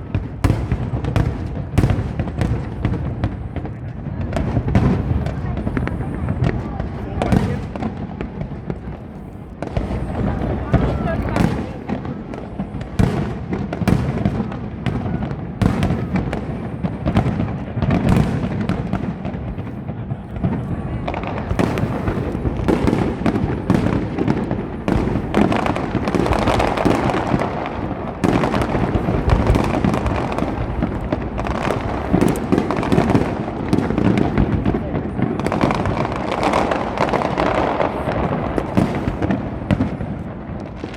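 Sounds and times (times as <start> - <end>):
fireworks bursts and crackles: 0.0 - 40.9.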